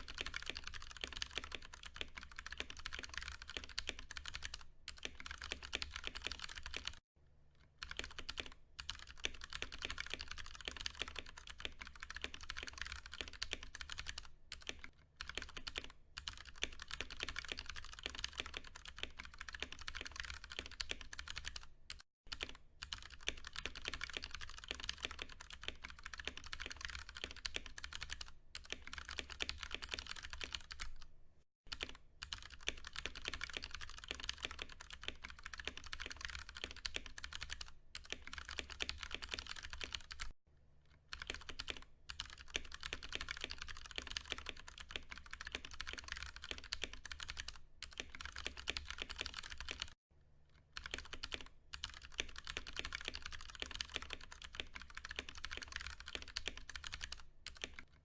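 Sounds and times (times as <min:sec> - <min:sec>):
fast typing on mechanical keyboard: 0:00.0 - 0:07.0, 0:07.8 - 0:31.1, 0:31.7 - 0:40.4, 0:41.1 - 0:50.0, 0:50.8 - 0:58.0.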